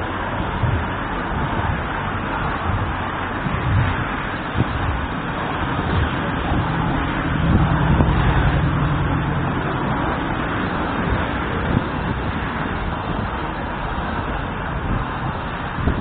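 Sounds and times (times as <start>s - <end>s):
low vehicle drone: 0.0s - 16.0s
road traffic rumble: 0.0s - 16.0s.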